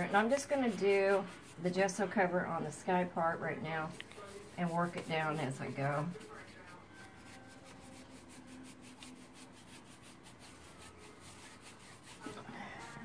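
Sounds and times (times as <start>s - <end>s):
paintbrush strokes on paper: 0.0s - 13.0s.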